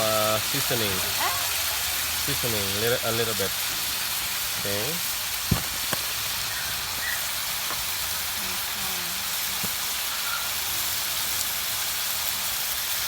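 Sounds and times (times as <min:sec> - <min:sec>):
fish frying in hot oil: 0:00.0 - 0:13.0.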